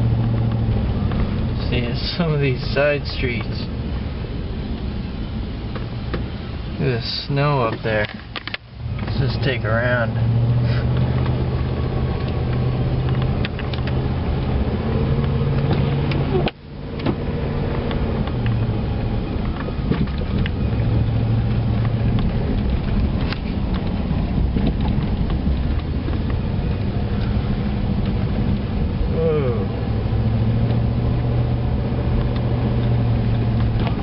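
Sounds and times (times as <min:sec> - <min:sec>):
diesel truck engine and road drone: 0:00.0 - 0:34.0.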